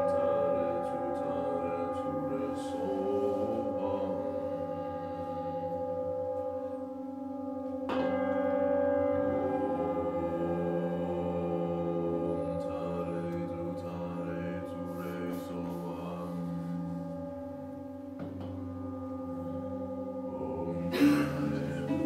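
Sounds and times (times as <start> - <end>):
gongs and bowls ringing: 0.0 - 22.0.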